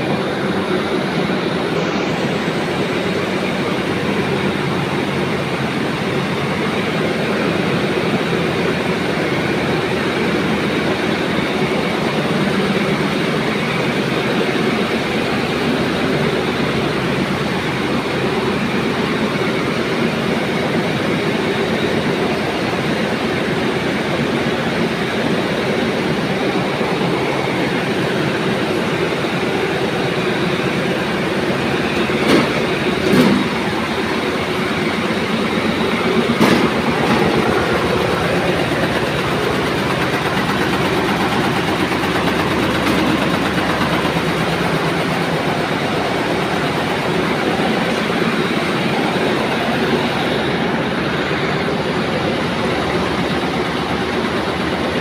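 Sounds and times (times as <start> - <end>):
machines running loudly: 0.0 - 55.0.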